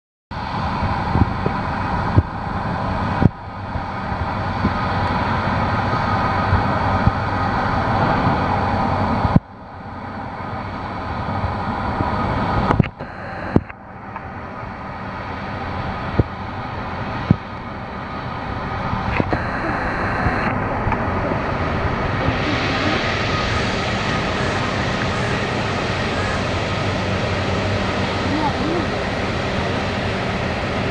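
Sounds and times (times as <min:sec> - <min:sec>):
jet engines rumbling: 0:00.4 - 0:30.9.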